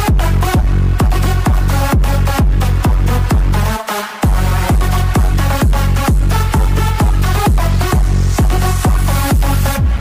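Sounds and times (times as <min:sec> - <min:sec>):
electronic dance music: 0:00.0 - 0:10.0
heavy bass kick drum: 0:00.0 - 0:10.0.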